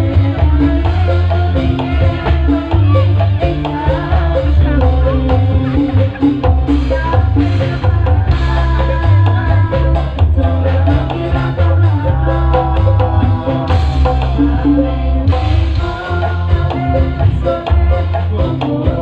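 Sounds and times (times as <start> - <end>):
loud music with heavy bass beat: 0.0 - 19.0.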